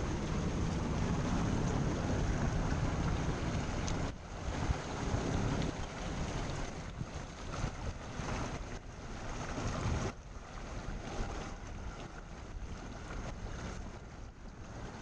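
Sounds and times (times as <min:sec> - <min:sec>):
low boat rumble: 0:00.0 - 0:15.0
wind buffeting microphone: 0:00.0 - 0:15.0.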